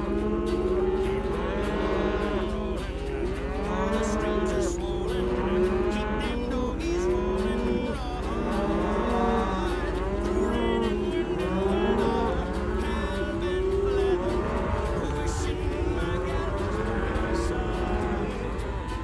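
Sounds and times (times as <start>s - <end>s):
cattle mooing: 0.0s - 19.0s
low steady hum: 0.0s - 19.0s.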